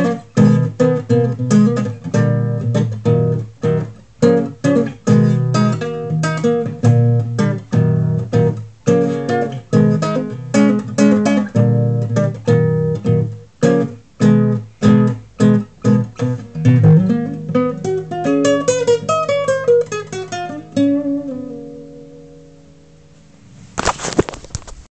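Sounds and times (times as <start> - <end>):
classical guitar fingerstyle: 0.0 - 23.5.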